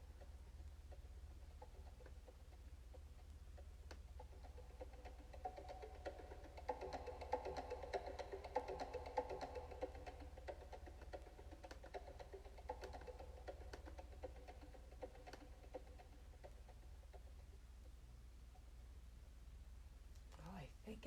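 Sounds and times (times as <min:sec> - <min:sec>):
soft music with wood-block clicks: 0:00.0 - 0:18.0.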